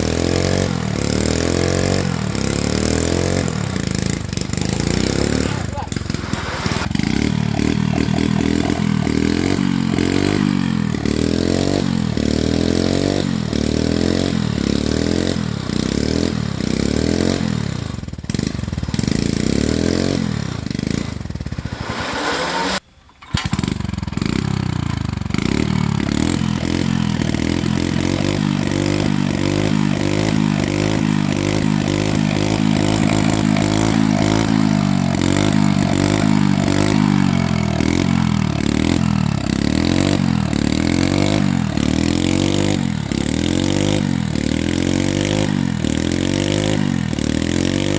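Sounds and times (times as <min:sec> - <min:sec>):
small petrol engine revving: 0:00.0 - 0:47.9.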